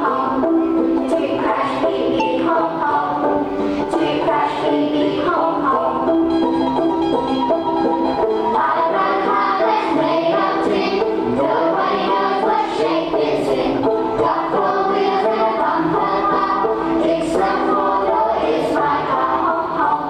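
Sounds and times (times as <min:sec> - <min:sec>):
children singing together: 0:00.0 - 0:20.0
instrumental accompaniment: 0:00.0 - 0:20.0.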